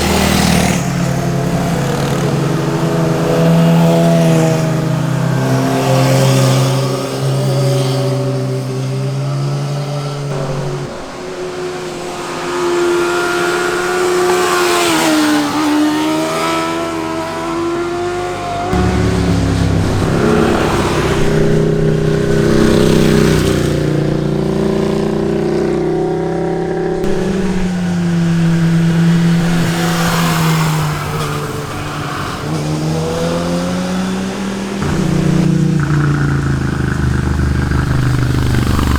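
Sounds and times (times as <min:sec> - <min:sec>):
motorcycles revving past: 0:00.0 - 0:38.9.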